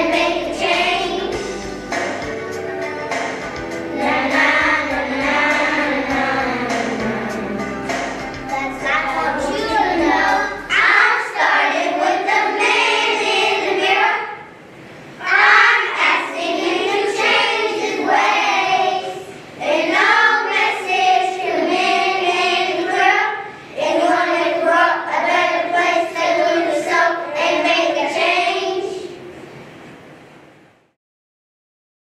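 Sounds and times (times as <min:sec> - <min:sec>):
children singing in unison: 0:00.0 - 0:02.2, 0:03.9 - 0:14.5, 0:15.2 - 0:29.3.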